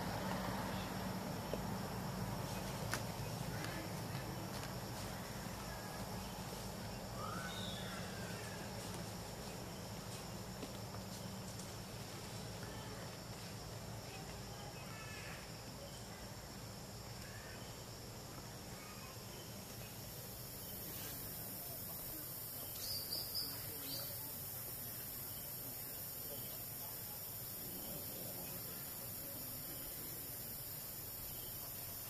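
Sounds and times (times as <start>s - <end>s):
faint high insect drone: 0.0s - 32.0s.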